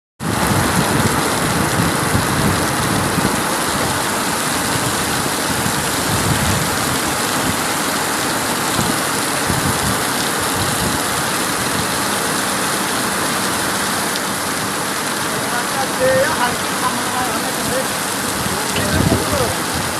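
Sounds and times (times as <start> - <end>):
steady rain falling: 0.2 - 19.9.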